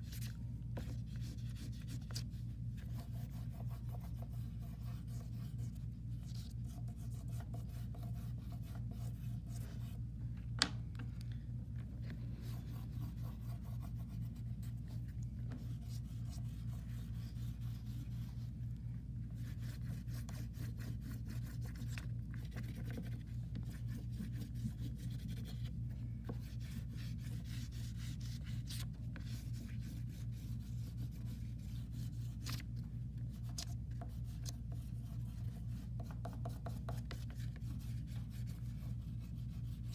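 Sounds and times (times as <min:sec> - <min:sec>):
steady low hum: 0:00.0 - 0:39.9
oil pastel scribbling on paper: 0:00.1 - 0:10.0, 0:12.0 - 0:18.6, 0:19.3 - 0:32.6, 0:33.3 - 0:39.9.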